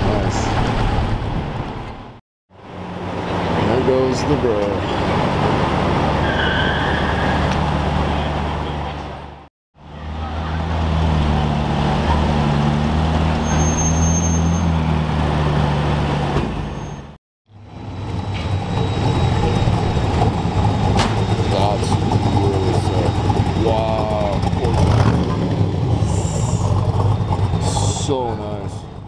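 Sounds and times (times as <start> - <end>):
car engine droning: 0.0 - 29.0
road traffic: 0.0 - 29.0.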